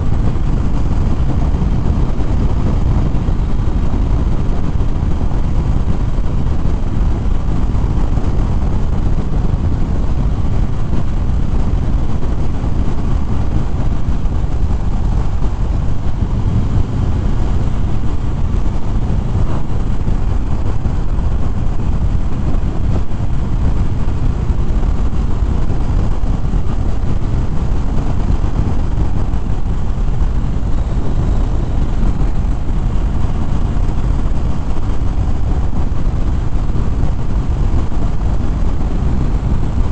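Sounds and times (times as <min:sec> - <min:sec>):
motorcycle engine drone: 0:00.0 - 0:39.9
wind rushing on microphone: 0:00.0 - 0:39.9.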